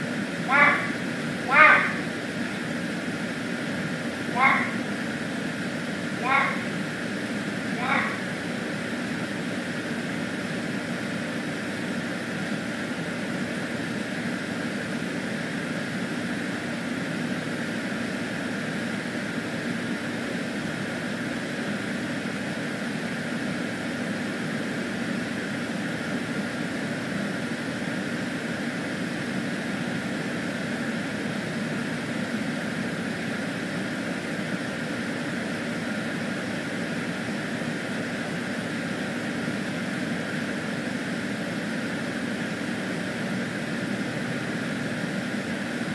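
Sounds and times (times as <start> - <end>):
fan droning with low hum: 0.0 - 45.9.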